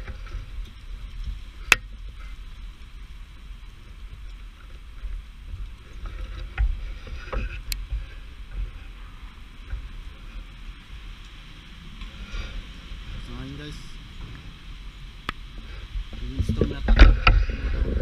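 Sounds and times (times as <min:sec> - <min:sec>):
hail and rain on cars and pavement: 0:00.0 - 0:18.0.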